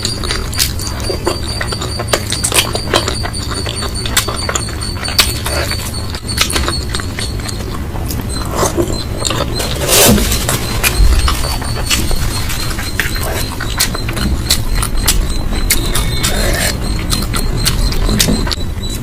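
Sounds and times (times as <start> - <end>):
chewing and mouth smacking: 0.0 - 19.0.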